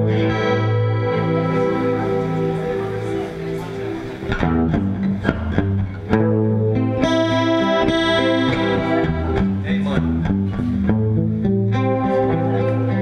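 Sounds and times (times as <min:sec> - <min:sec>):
blues band playing: 0:00.0 - 0:13.0
strummed guitar chords: 0:00.0 - 0:13.0.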